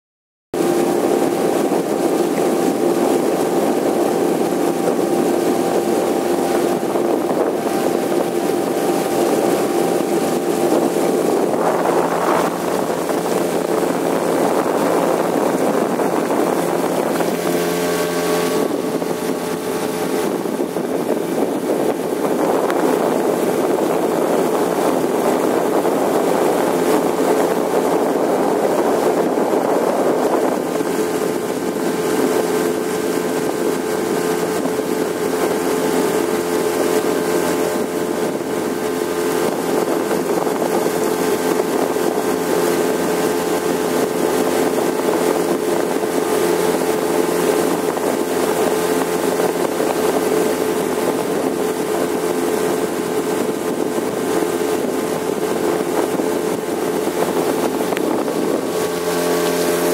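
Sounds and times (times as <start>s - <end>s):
outboard motor running: 0.6s - 59.9s.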